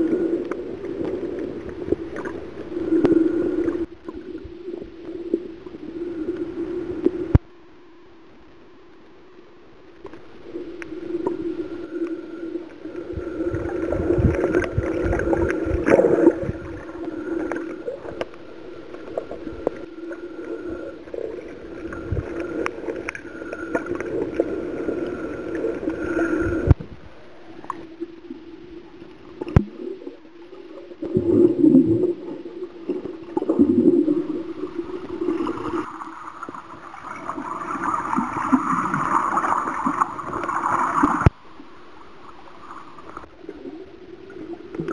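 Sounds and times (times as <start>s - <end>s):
water gurgling and sloshing: 0.0s - 7.6s, 10.0s - 44.9s
steady underwater drone: 0.0s - 44.9s.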